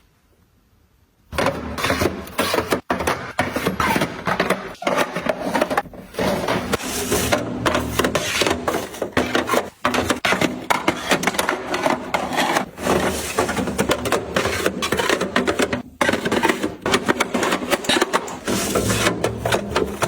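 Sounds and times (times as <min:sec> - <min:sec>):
containers clicking and knocking: 0:01.3 - 0:20.0.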